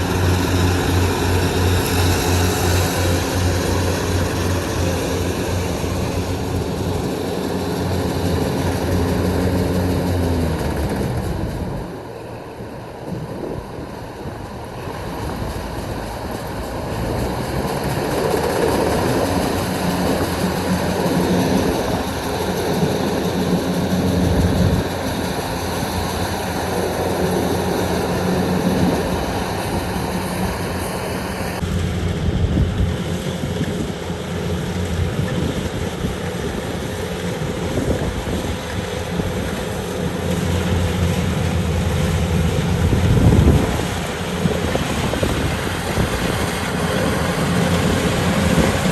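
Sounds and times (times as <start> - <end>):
combine harvester diesel engine running: 0.0 - 48.9.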